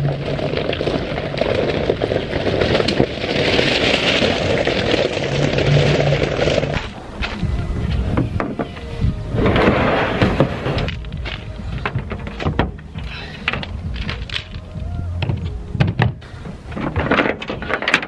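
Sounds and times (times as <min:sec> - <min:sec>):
tyres crunching on stones: 0:00.0 - 0:18.0.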